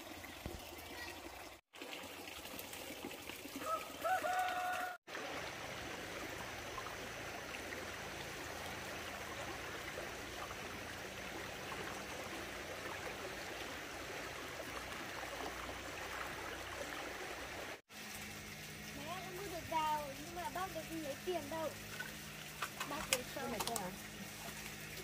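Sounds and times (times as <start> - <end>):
flowing water: 0.0 - 25.0.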